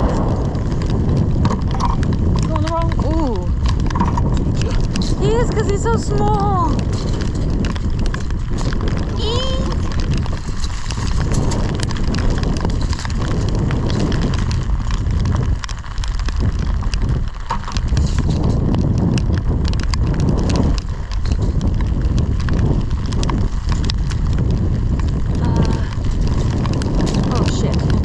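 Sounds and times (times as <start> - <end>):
wind rumbling on microphone: 0.0 - 28.0
small clicks and knocks: 0.6 - 28.0.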